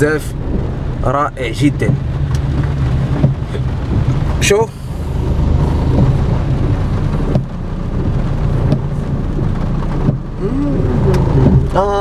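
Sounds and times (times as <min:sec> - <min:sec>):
car rumbling on wet road: 0:00.0 - 0:12.0
rain noise: 0:00.0 - 0:12.0.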